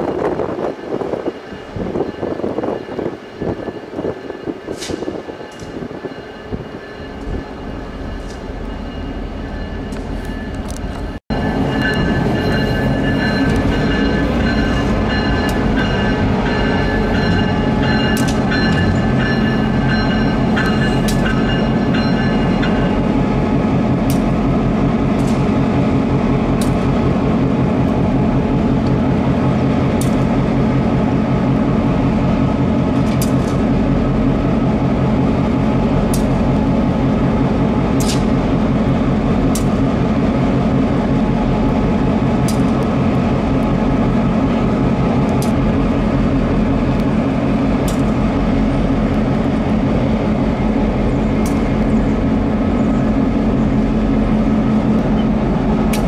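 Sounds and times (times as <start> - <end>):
diesel locomotive idling: 6.9 - 56.0.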